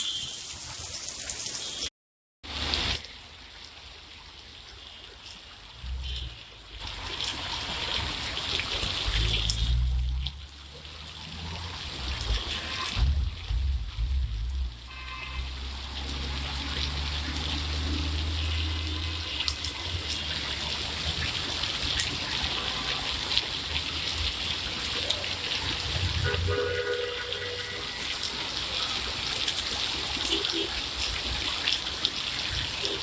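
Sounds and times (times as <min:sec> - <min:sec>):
rain falling: 0:00.0 - 0:33.0
water trickling: 0:02.5 - 0:33.0.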